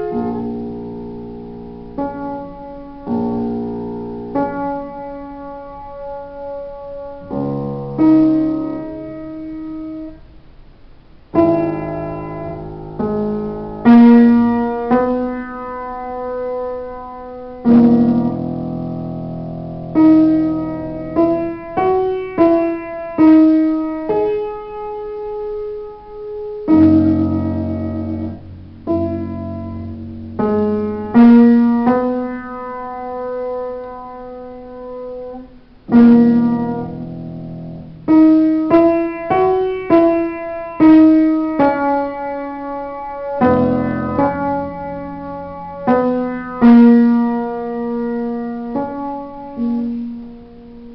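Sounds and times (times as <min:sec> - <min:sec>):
solo piano melody: 0:00.0 - 0:50.9.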